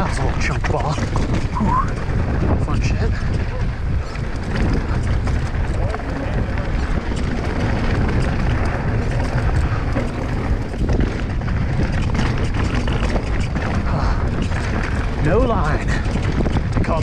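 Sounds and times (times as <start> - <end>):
bike knocks and rattles: 0.0 - 17.0
tyres rolling across rock: 0.0 - 17.0
wind rumbling on microphone: 0.0 - 17.0.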